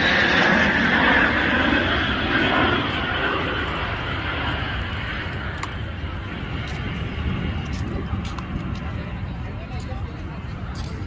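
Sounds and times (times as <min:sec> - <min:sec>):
jet aircraft passing over: 0:00.0 - 0:11.0.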